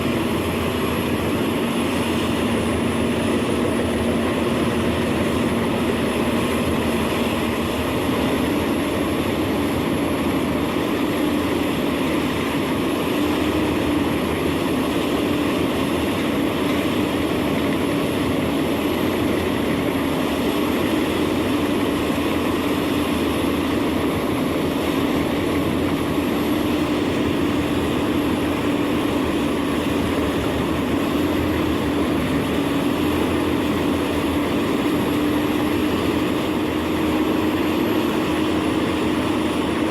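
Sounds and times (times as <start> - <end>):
wood chipper engine droning: 0.0 - 39.9.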